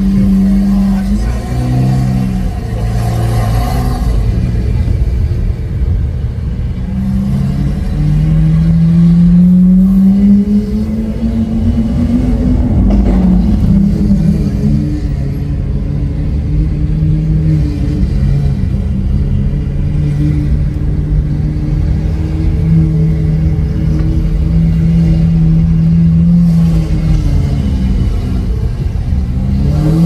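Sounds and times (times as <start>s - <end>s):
car engine droning at low revs: 0.0s - 30.0s.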